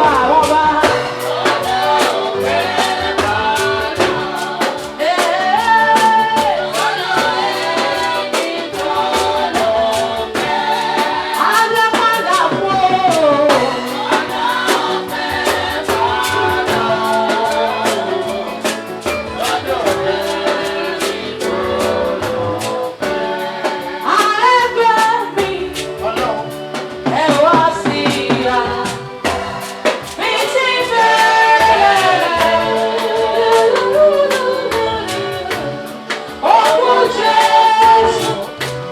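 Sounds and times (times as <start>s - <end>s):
gospel band playing: 0.0s - 38.9s
steady drum beat: 0.0s - 38.9s
woman singing lead: 0.0s - 38.9s.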